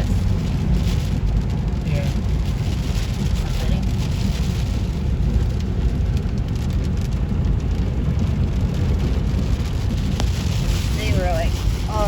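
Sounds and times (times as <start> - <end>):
vehicle rumble inside cabin: 0.0 - 12.0.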